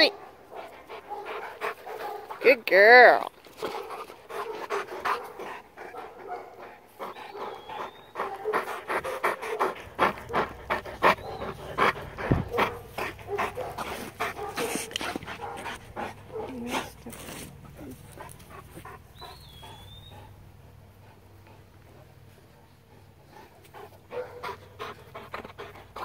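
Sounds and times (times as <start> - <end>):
dog panting: 0.0 - 2.6, 3.4 - 26.0.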